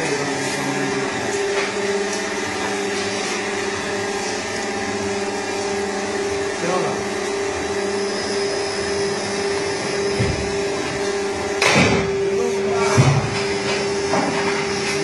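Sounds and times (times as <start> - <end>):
cutting machine whirring: 0.0 - 15.0.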